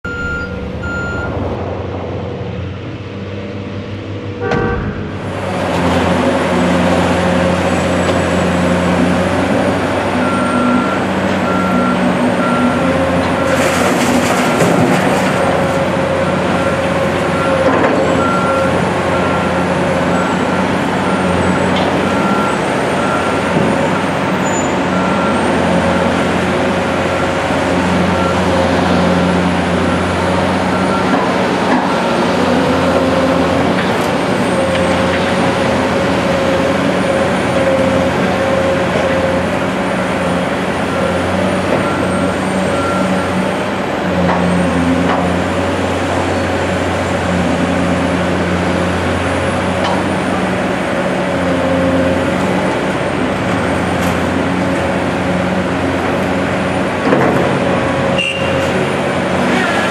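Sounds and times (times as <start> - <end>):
heavy diesel engines running: 0.0 - 59.9
excavator digging dirt: 4.3 - 59.9.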